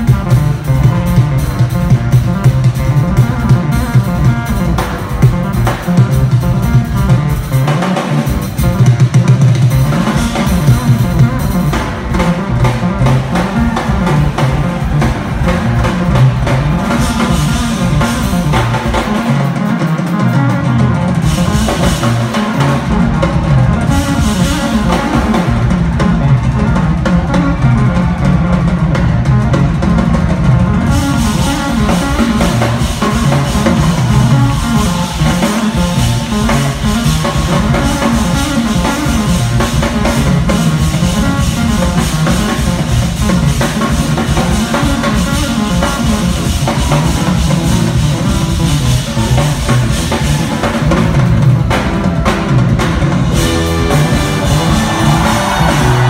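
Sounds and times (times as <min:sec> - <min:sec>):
jazz-fusion band playing: 0:00.0 - 0:56.0.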